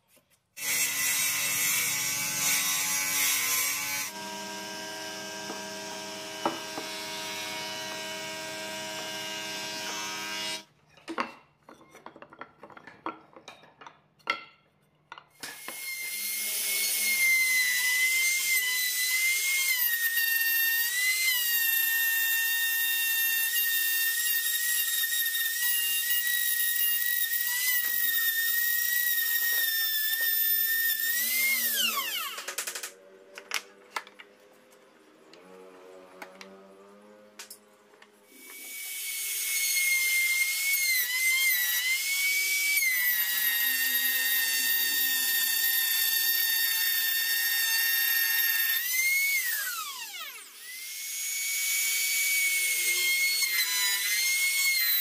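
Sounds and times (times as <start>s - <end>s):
trim router whining: 0.6s - 10.6s, 15.4s - 32.8s, 38.3s - 55.0s.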